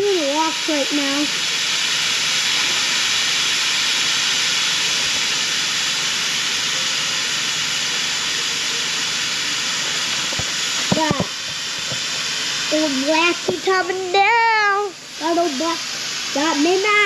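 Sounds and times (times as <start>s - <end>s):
steady even hiss: 0.0s - 17.0s.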